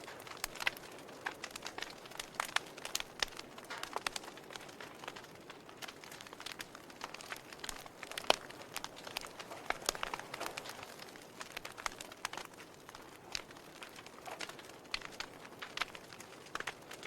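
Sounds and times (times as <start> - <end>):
fire pops and snaps: 0.0 - 17.0
wood fire crackling: 0.0 - 17.0.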